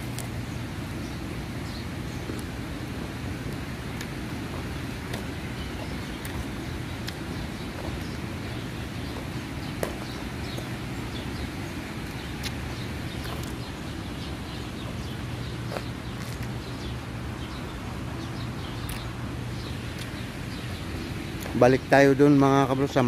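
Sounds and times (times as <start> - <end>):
constant low hum: 0.0 - 23.0.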